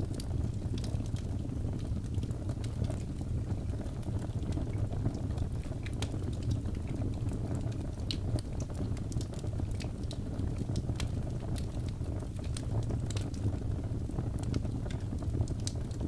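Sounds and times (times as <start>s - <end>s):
fire crackling and popping: 0.0s - 16.0s
low rush of flames: 0.0s - 16.0s.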